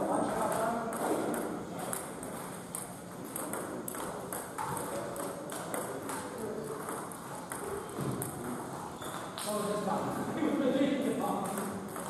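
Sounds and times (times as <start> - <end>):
table tennis balls clicking: 0.2 - 9.6, 11.2 - 12.0.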